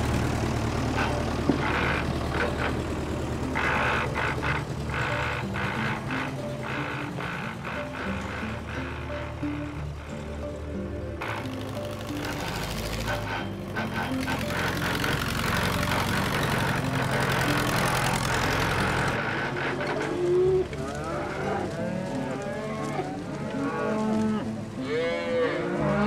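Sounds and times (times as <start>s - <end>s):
background music with low notes: 0.0s - 26.0s
cattle mooing: 0.8s - 26.0s.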